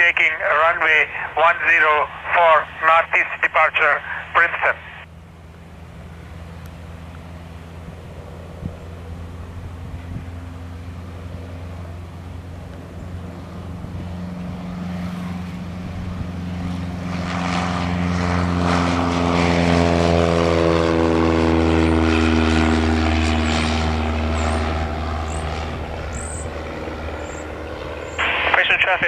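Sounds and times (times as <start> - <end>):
propeller plane engine at full power: 0.0 - 29.0.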